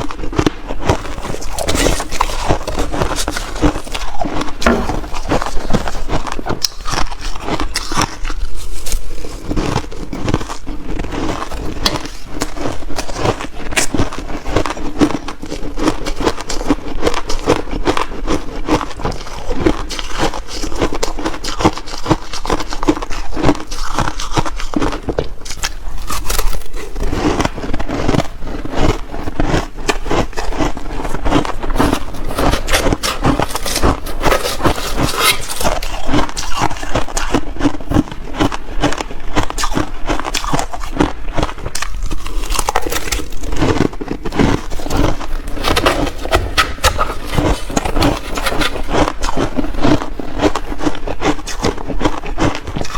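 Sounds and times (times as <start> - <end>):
ice crunching while chewed: 0.0 - 52.9.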